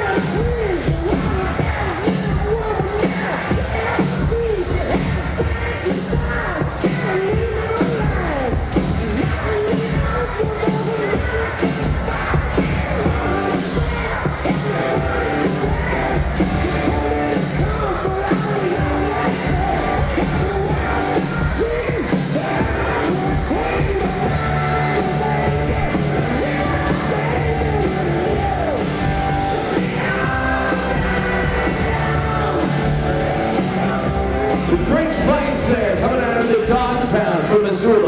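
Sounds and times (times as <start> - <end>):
faint yells and crowd noise: 0.0 - 38.0
rock song with singing: 0.0 - 38.0.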